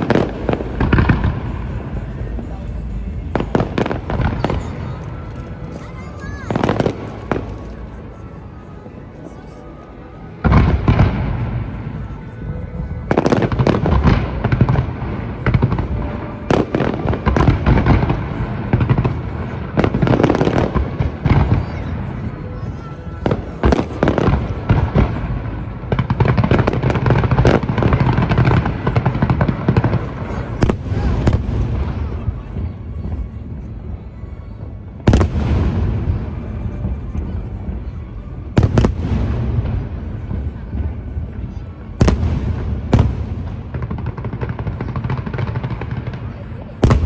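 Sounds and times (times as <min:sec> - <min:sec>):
fireworks crackling: 0:00.0 - 0:47.0.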